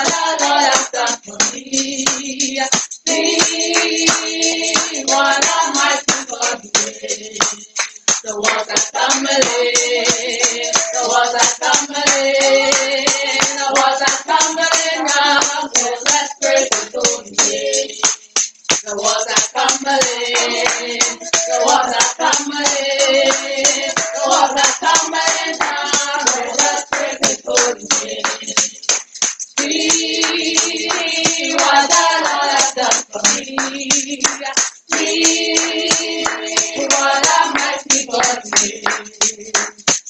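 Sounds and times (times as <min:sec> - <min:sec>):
voices singing gospel chorus: 0:00.0 - 0:29.0, 0:29.6 - 0:39.8
hand claps: 0:00.0 - 0:40.0.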